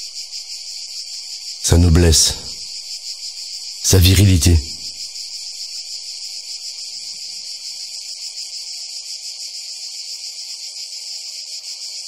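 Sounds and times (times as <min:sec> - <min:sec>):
insects singing: 0:00.0 - 0:12.0.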